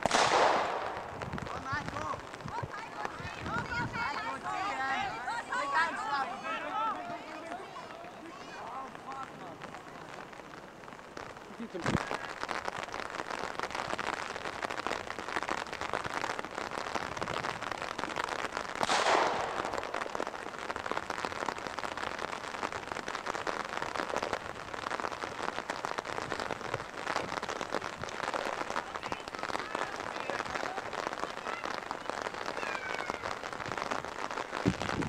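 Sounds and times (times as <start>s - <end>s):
steady rain pattering: 0.0s - 35.0s.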